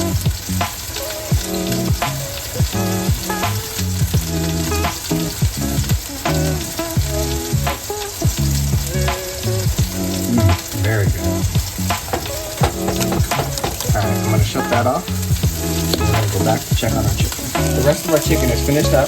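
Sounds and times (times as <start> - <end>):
background music with beat and bass: 0.0 - 19.0
sauce bubbling and sizzling: 0.0 - 19.0.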